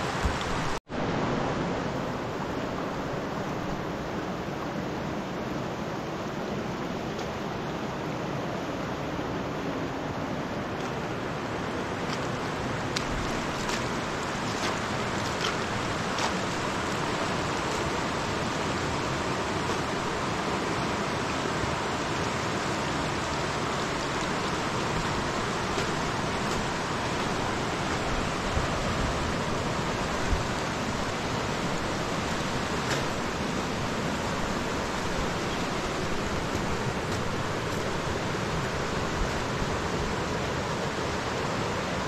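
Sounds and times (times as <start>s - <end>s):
fast-flowing river rushing: 0.0s - 42.0s.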